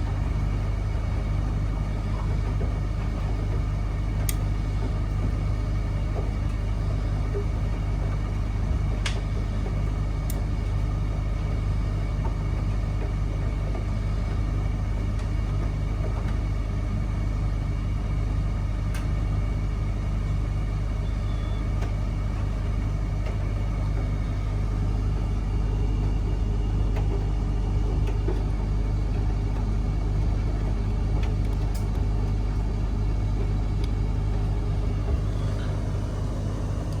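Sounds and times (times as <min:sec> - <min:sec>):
washing machine humming: 0:00.0 - 0:37.0.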